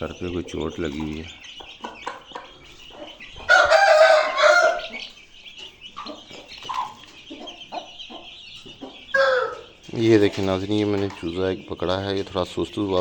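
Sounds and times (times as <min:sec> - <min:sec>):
chicks cheeping: 0:00.0 - 0:13.0
hen clucking: 0:00.0 - 0:13.0.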